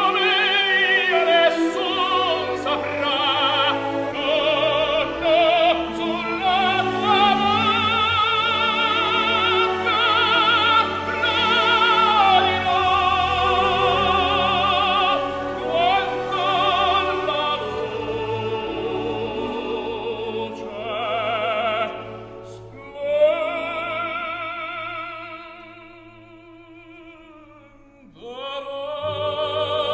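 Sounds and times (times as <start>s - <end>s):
orchestral accompaniment: 0.0s - 25.9s, 28.4s - 29.9s
operatic voice singing: 0.0s - 29.9s.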